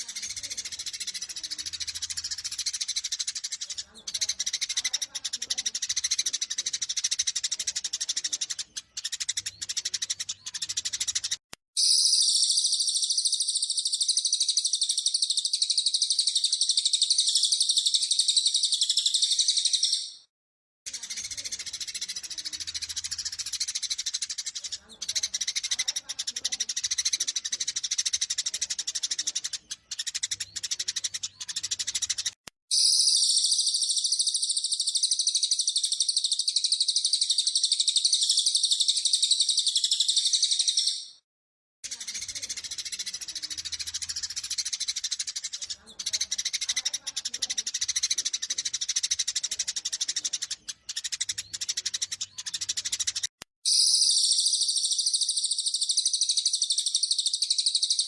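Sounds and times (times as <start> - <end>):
songbird trilling song: 0.0 - 20.3, 20.9 - 41.2, 41.9 - 58.0
sparrows chirping agitatedly: 0.0 - 20.3, 20.9 - 41.2, 41.8 - 58.0.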